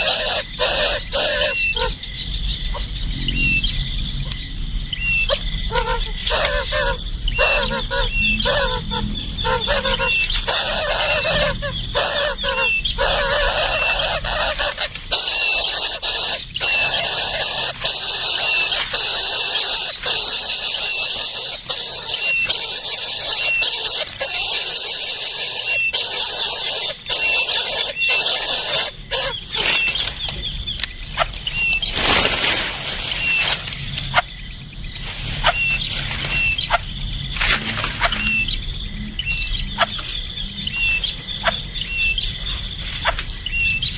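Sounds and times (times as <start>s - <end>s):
bird chirping: 0.0s - 43.9s
crickets chirping: 0.0s - 43.9s.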